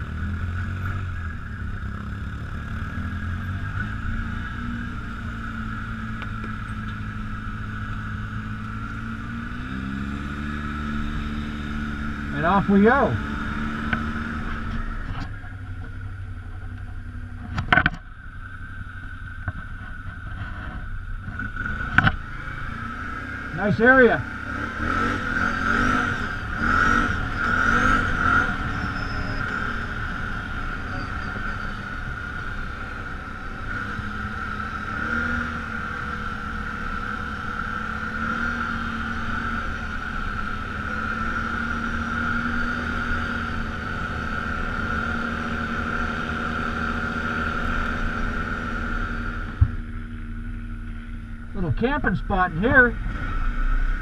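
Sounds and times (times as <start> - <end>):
high whine: 0.0 - 54.0
quad bike engine running: 0.0 - 54.0.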